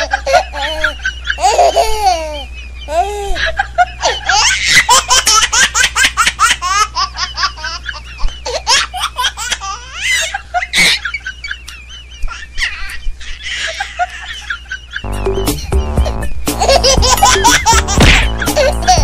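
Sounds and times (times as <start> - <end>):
high-pitched laughter: 0.0 - 19.0.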